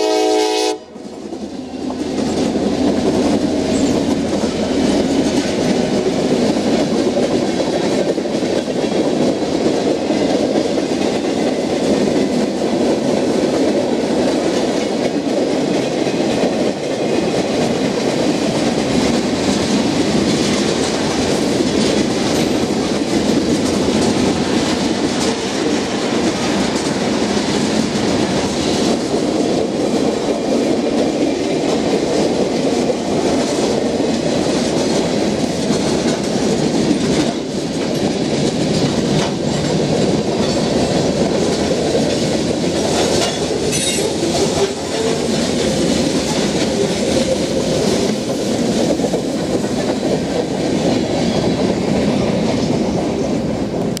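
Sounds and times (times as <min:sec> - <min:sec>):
train wheels rolling on rails: 0:00.0 - 0:54.0
clicks of train wheels: 0:00.1 - 0:54.0.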